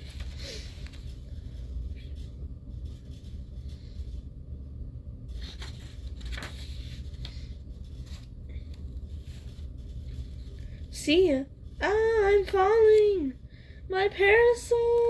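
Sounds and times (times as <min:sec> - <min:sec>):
paper rustling and scraping: 0:00.0 - 0:04.3, 0:05.2 - 0:13.2
steady low hum: 0:00.0 - 0:15.0.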